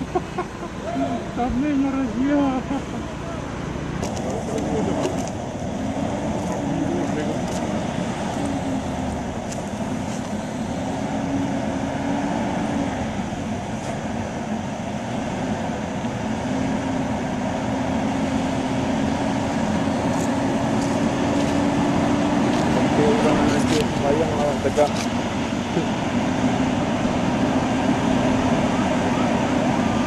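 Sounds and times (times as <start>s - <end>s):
road noise: 0.0s - 30.0s
vehicle engine drone: 0.0s - 30.0s.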